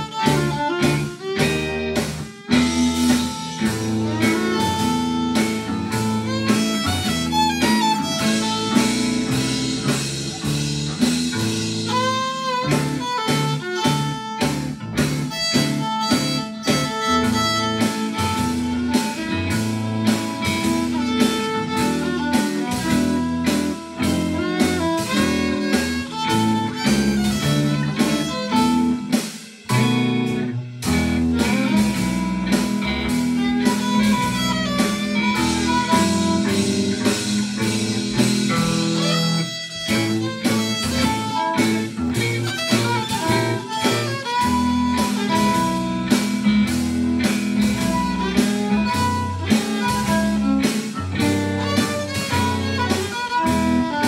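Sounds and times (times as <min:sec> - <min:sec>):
fiddle playing a blues tune: 0:00.0 - 0:54.0
strummed rhythm guitar: 0:00.0 - 0:54.0.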